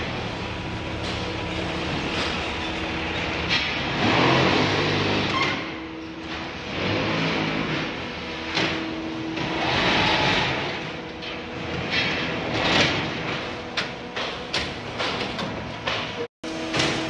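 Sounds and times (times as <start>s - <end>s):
block-making machinery running: 0.0s - 17.0s.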